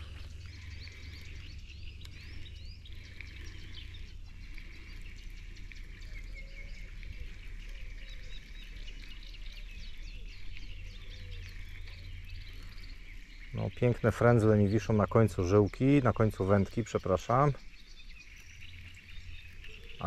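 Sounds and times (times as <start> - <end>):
birds chirping and singing: 0.0 - 20.0
steady low rumble: 0.0 - 20.0.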